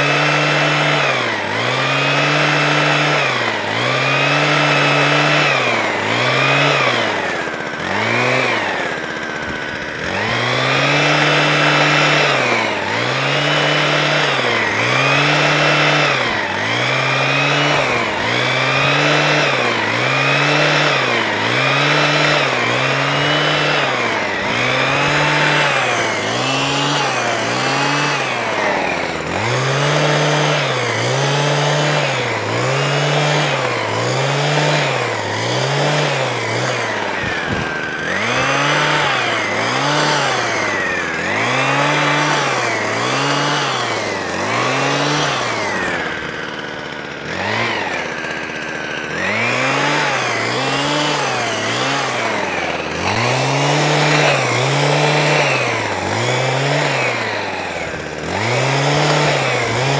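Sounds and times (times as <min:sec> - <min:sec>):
hedge trimmer engine revving: 0:00.0 - 0:59.9.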